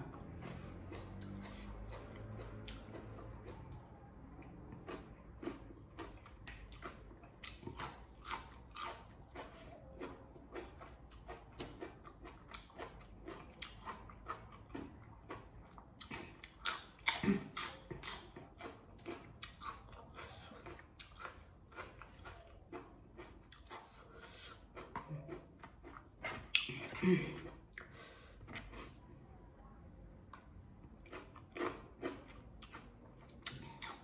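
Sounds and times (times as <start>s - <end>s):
person chewing crunchy food: 0.0s - 28.9s, 30.3s - 34.0s.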